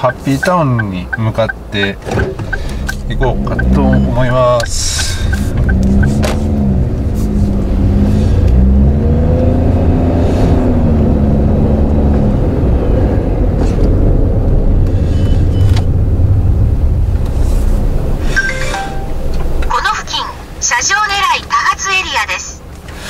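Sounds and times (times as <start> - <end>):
car cabin road and engine rumble: 0.0 - 23.0.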